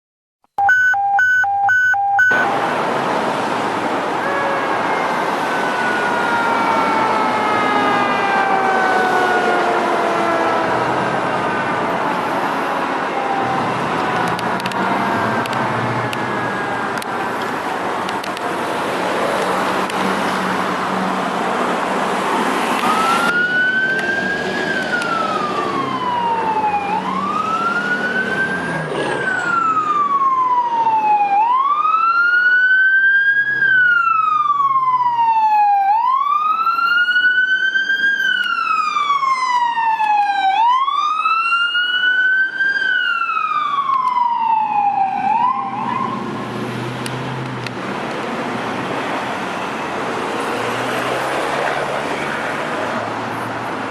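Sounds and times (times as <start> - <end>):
fire engine siren wailing: 0.6 - 18.0, 18.6 - 47.0
rushing road traffic: 0.6 - 53.9.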